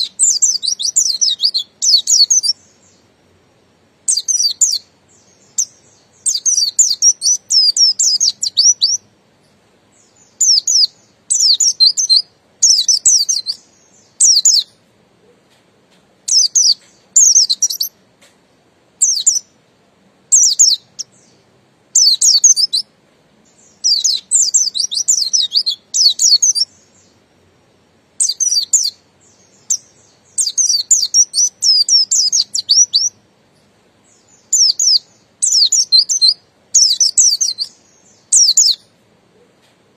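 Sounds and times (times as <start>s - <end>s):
bird warbling song: 0.0s - 3.2s, 4.0s - 15.6s, 16.2s - 18.0s, 19.0s - 19.6s, 20.3s - 39.7s.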